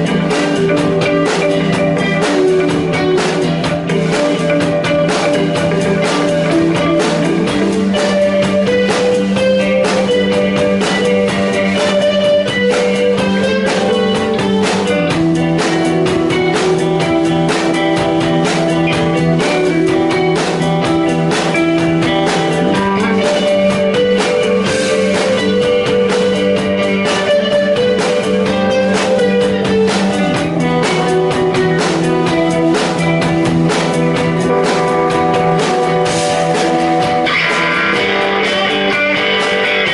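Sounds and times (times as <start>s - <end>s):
drum kit steady beat: 0.0s - 39.9s
sustained electric guitars: 0.0s - 39.9s.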